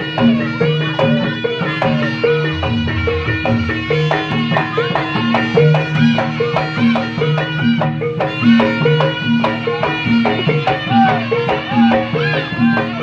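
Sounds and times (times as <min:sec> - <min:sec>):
folk music with percussive beat: 0:00.0 - 0:13.0.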